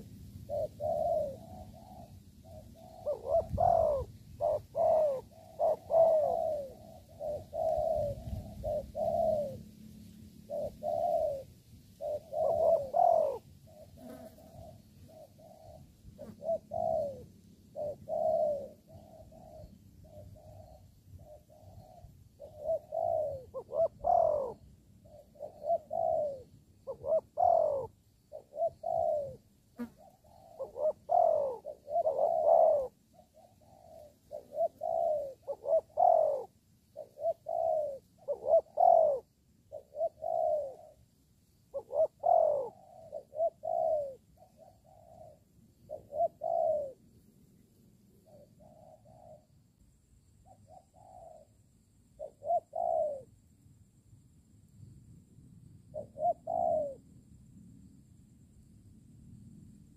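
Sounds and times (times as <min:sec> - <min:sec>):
doves cooing: 0:00.0 - 0:53.4, 0:55.9 - 0:57.1.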